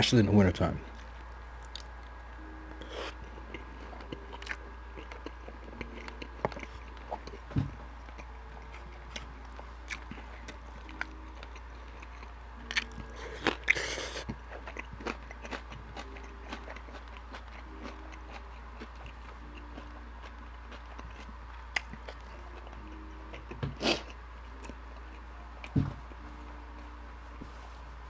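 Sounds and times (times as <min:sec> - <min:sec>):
crunchy chewing: 0:00.9 - 0:27.0
chewing with wet mouth clicks: 0:01.0 - 0:02.1, 0:02.8 - 0:25.8.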